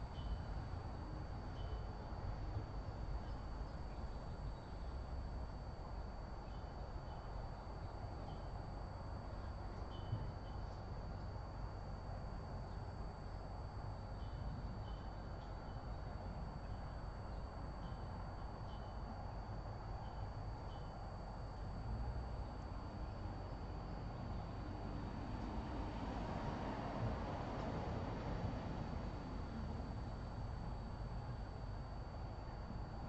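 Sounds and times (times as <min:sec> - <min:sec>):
faint high whine: 0:00.0 - 0:33.0.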